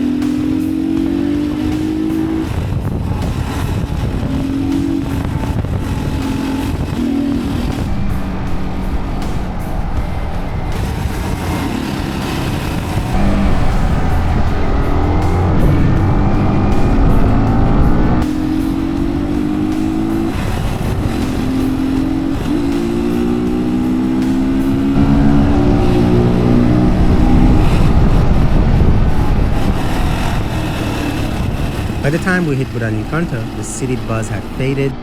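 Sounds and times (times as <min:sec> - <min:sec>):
dirt bike engine accelerating: 0:00.0 - 0:35.0
wind noise: 0:00.0 - 0:35.0.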